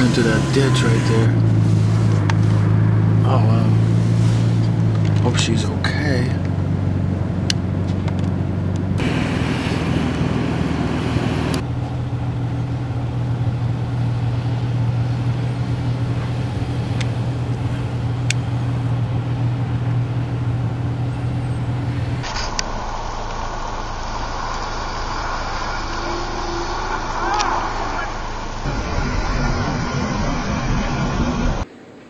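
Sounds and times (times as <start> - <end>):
road noise: 0.0 - 32.0
vehicle engine hum: 0.0 - 32.0.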